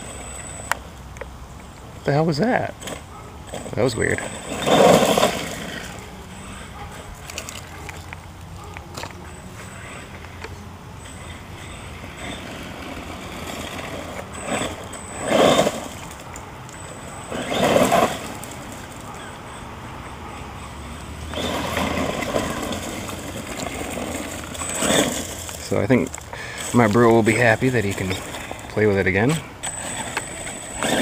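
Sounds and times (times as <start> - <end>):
toy truck electric motor: 0.0 - 1.0, 2.6 - 31.0.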